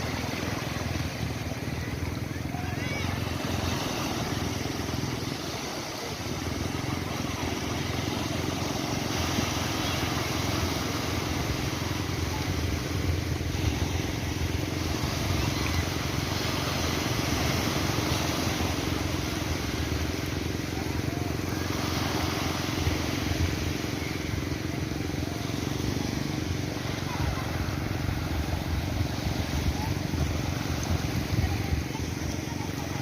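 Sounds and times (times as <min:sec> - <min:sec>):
low motor hum: 0:00.0 - 0:33.0
waves rushing: 0:00.0 - 0:33.0.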